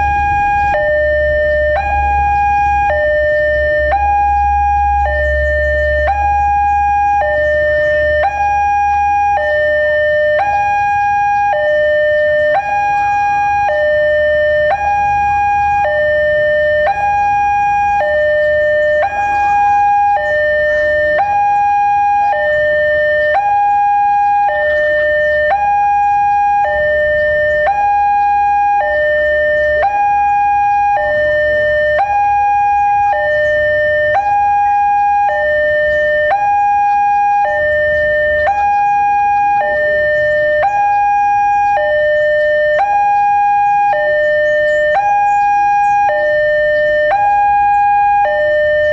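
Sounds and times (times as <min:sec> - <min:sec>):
two-tone level-crossing alarm: 0:00.0 - 0:48.9.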